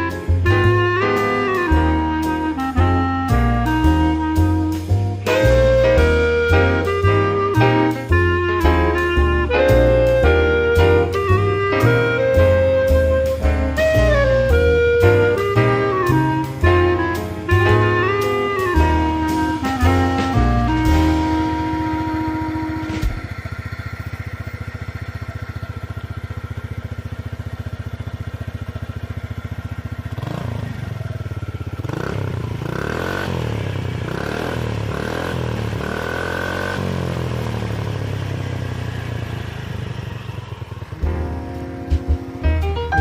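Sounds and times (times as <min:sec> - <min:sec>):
scooter engine idling: 0:00.0 - 0:43.0
scooter engine revving: 0:00.0 - 0:43.0.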